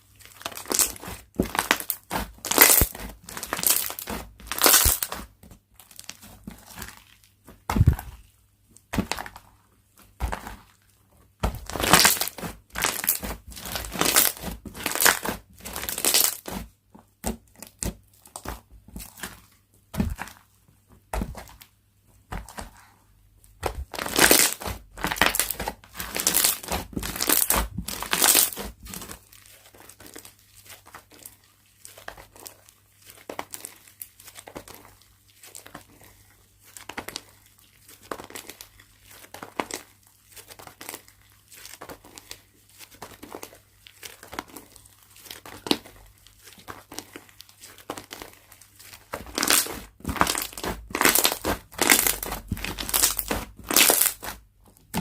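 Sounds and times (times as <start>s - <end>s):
soft slime squishes: 0.0s - 55.0s
slime crackling and popping: 0.2s - 8.2s, 11.4s - 16.7s, 23.6s - 35.9s, 36.6s - 55.0s.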